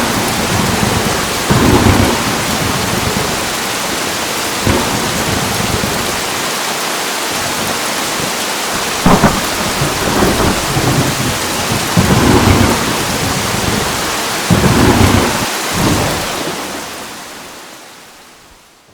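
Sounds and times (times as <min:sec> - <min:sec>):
thunder cracking and rumbling: 0:00.0 - 0:06.4, 0:07.4 - 0:16.8
heavy rain falling: 0:00.0 - 0:18.9.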